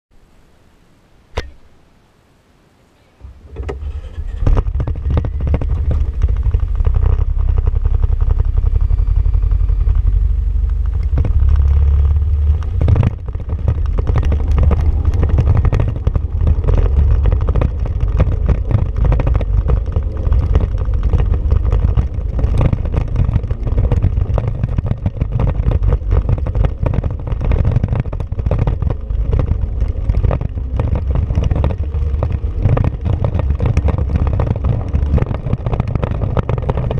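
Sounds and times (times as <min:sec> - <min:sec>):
utility vehicle engine running: 0:03.2 - 0:36.9
rattles and knocks: 0:03.5 - 0:36.9.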